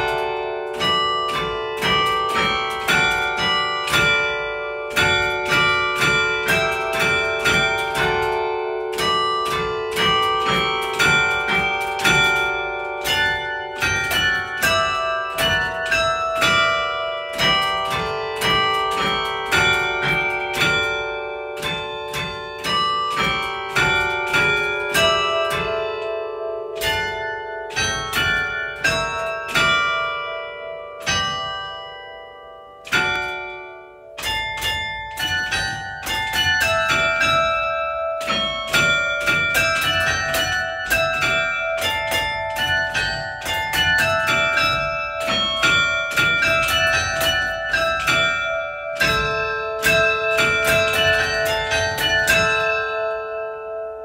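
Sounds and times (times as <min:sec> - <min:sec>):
carillon bells playing a tune: 0:00.0 - 0:54.0.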